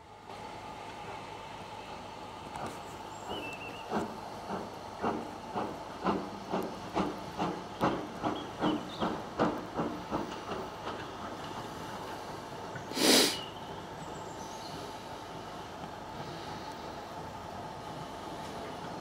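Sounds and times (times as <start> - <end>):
steady hiss of steam: 0.0 - 19.0
steam locomotive exhaust chuffing: 0.7 - 19.0.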